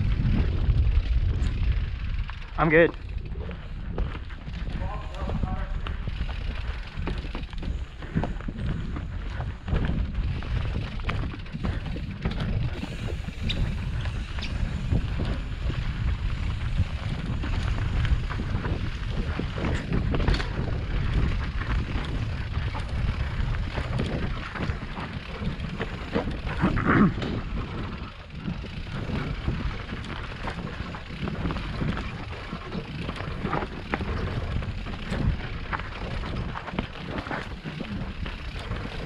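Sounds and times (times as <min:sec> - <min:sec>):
bike clatter: 0:00.0 - 0:39.0
bike rattling over bumps: 0:00.0 - 0:39.0
tyres rumbling over dirt: 0:00.0 - 0:39.0
wind buffeting on microphone: 0:00.0 - 0:39.0.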